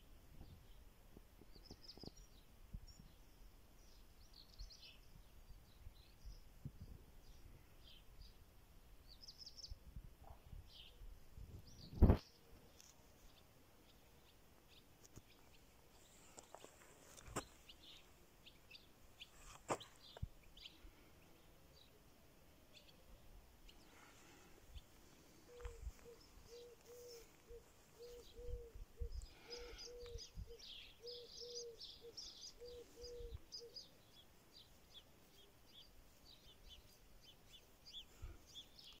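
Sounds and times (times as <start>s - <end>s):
small birds chirping: 0.4s - 39.0s.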